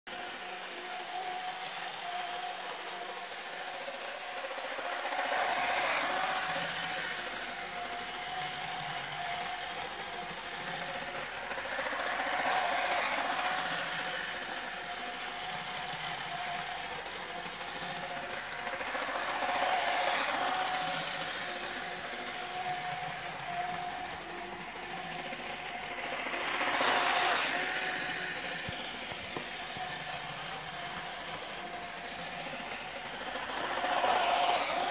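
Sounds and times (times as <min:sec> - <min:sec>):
model train motor whine: 0:00.1 - 0:34.9.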